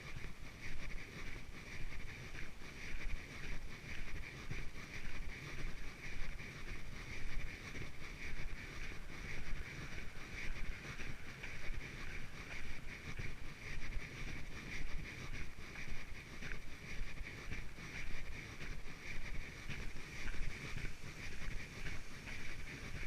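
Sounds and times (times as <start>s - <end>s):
footsteps on a trail: 0.0s - 23.0s
wind rumbling on microphone: 0.0s - 23.0s.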